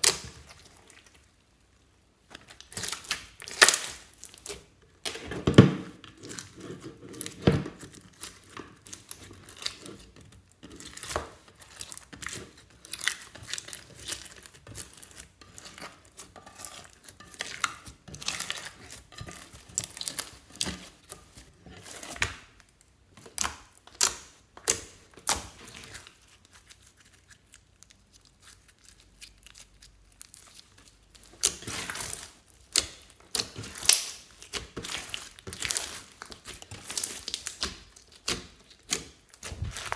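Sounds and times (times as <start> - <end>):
slime crackling and squelching: 0.0 - 39.9.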